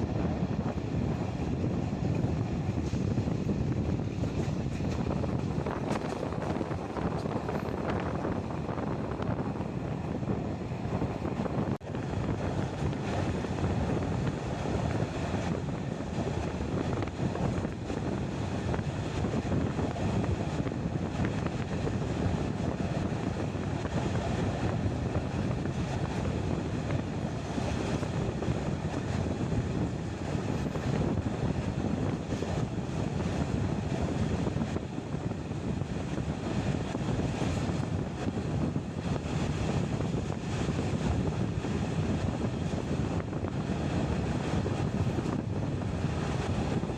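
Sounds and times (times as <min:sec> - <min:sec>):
train wheels rumbling on rails: 0:00.0 - 0:46.9
wind buffeting microphone: 0:00.0 - 0:46.9.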